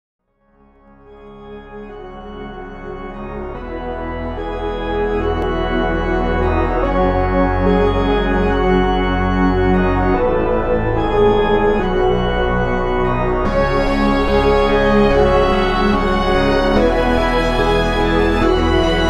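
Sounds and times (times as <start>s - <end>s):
music of sustained chords: 0.5s - 19.0s.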